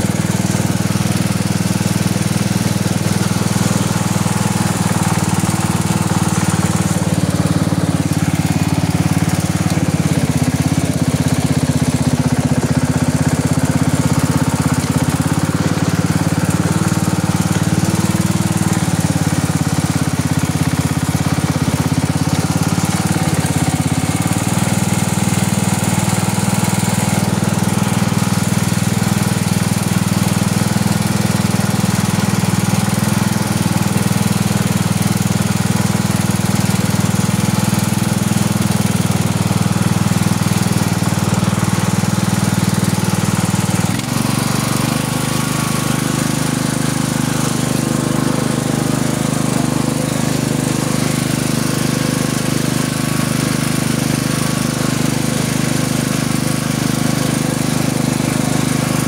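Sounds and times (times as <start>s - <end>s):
riding lawn mower engine running: 0.0s - 59.0s.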